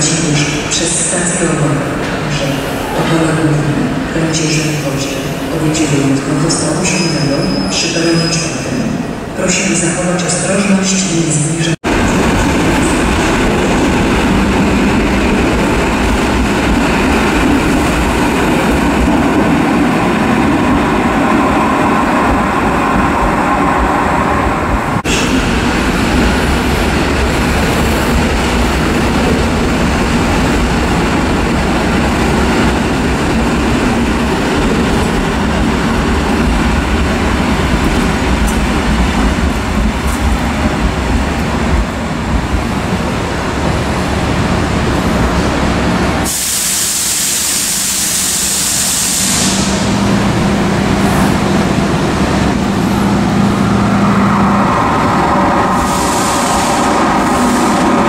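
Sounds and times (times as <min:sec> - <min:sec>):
train wheels rumbling on rail: 0:10.9 - 0:58.0.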